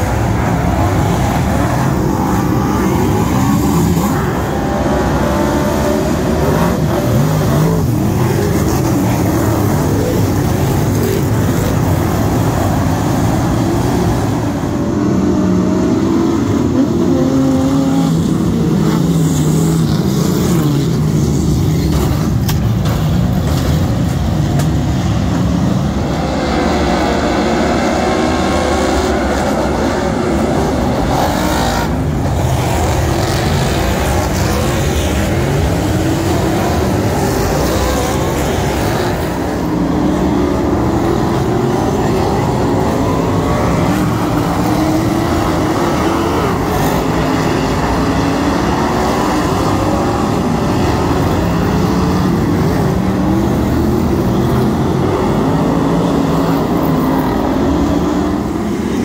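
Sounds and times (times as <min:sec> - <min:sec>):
racing car engines roaring: 0:00.0 - 0:59.0.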